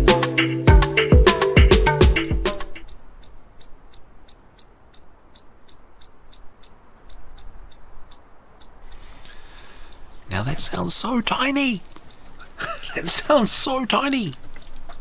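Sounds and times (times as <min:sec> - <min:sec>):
chipmunk chirping: 0:02.2 - 0:15.0.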